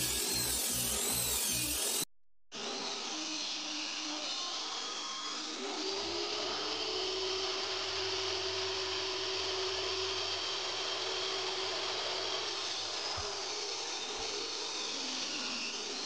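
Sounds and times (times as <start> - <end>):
table saw whining: 0.0 - 16.0.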